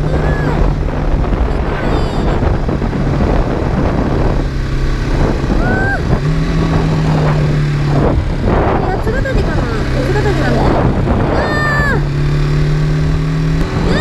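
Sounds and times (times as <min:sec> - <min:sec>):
motorcycle engine cruising: 0:00.0 - 0:14.0
road noise: 0:00.0 - 0:14.0
wind noise: 0:00.0 - 0:14.0.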